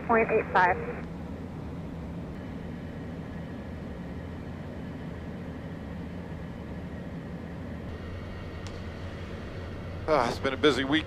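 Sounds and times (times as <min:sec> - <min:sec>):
jet engines droning: 0:00.0 - 0:11.0.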